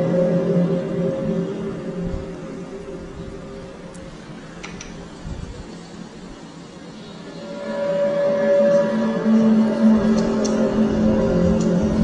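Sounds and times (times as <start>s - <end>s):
low drone of steady tones: 0.0s - 12.0s
steady hiss: 0.0s - 12.0s.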